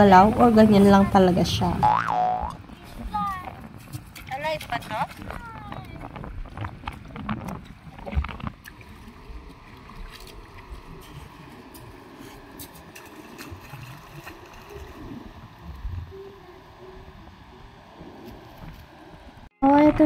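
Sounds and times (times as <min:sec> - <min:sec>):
wind rumbling on microphone: 0:00.0 - 0:20.0
small water splashes: 0:01.9 - 0:19.2.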